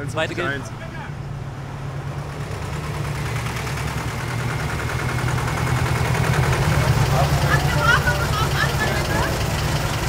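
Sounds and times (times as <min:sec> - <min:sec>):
vehicle engine approaching: 0:00.0 - 0:10.0.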